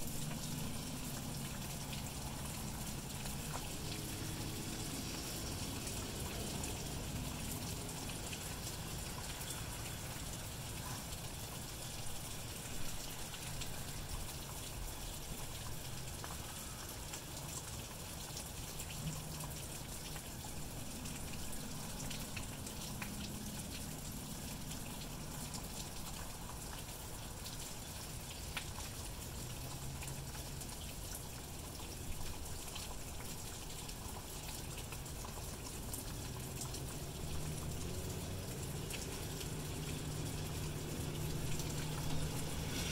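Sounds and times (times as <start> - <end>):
drips ticking: 0.0 - 42.9
steady rain falling: 0.0 - 42.9.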